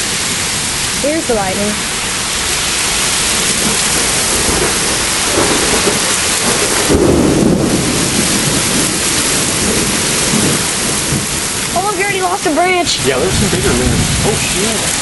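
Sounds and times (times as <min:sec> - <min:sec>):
thunder rumble: 0:00.0 - 0:15.0
torrential rain and wind hiss: 0:00.0 - 0:15.0.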